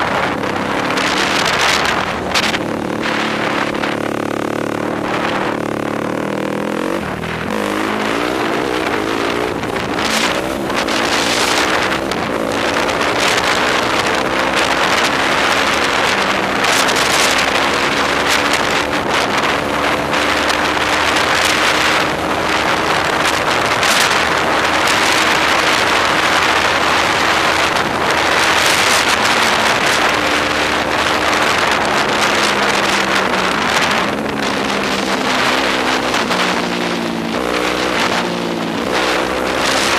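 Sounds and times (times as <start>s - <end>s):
quad engine running: 0.0s - 39.9s
wind noise on microphone: 0.0s - 39.9s.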